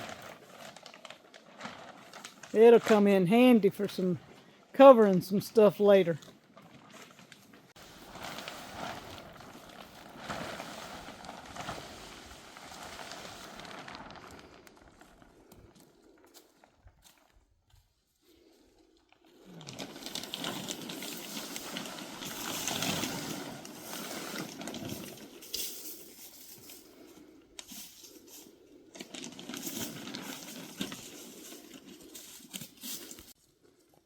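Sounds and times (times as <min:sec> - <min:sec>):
plastic sheeting crinkling: 0:00.0 - 0:33.4.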